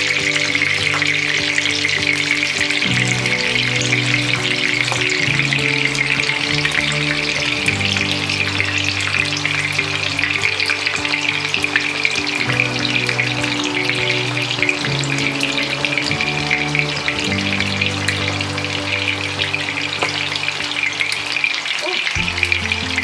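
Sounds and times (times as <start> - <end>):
fish deep-frying in oil: 0.0 - 23.0.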